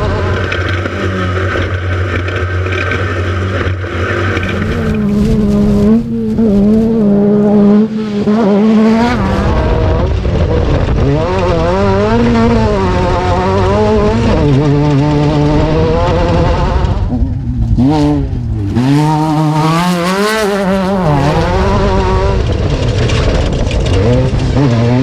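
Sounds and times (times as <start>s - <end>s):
race car engine revving: 0.0s - 25.0s.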